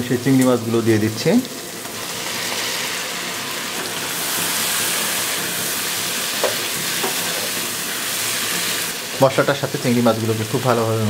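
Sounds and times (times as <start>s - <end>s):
shrimp sizzling in oil: 0.0s - 11.0s.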